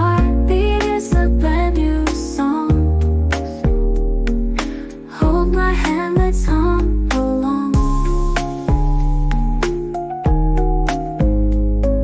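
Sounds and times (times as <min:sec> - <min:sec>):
instrumental chill pop music: 0:00.0 - 0:12.0.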